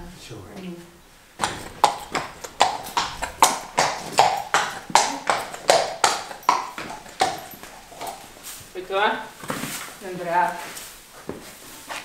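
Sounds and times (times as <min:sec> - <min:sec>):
horse hooves on brick floor: 0:01.4 - 0:12.0.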